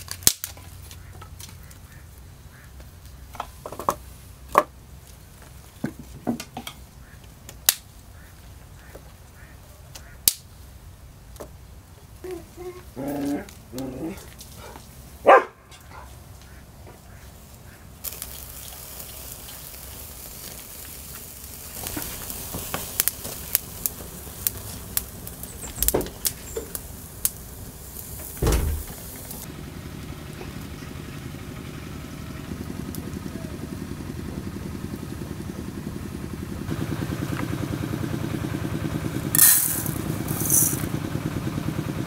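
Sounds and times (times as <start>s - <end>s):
fire crackling and popping: 0.0s - 12.0s, 12.9s - 15.2s, 16.2s - 41.0s.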